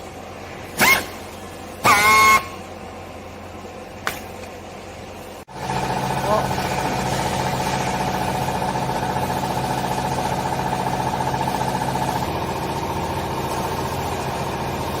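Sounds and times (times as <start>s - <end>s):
hydraulic pump motor humming: 0.0s - 4.5s, 5.5s - 15.0s.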